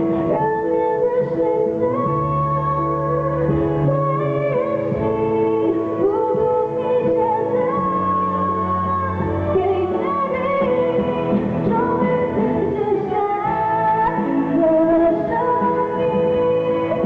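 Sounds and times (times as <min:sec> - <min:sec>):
instrumental backing: 0:00.0 - 0:17.0
woman singing pop ballad: 0:00.0 - 0:17.0.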